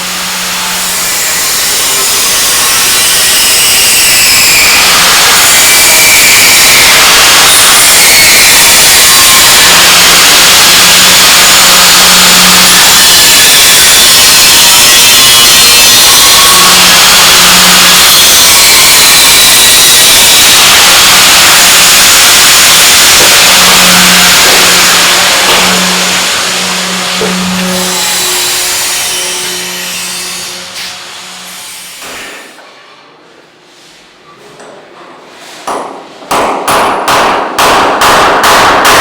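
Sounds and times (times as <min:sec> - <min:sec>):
loud machine hissing: 0:00.0 - 0:32.6.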